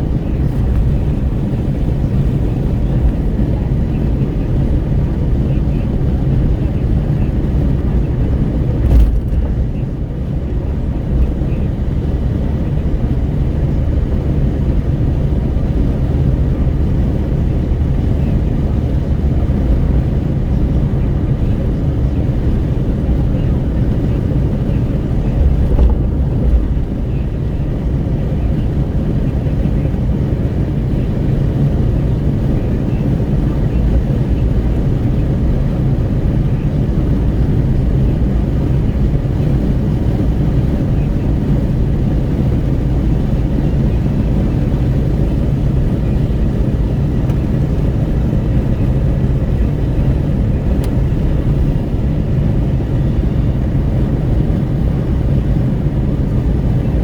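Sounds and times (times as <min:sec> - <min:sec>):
road noise: 0:00.0 - 0:57.0
wind buffeting through car window: 0:00.0 - 0:57.0.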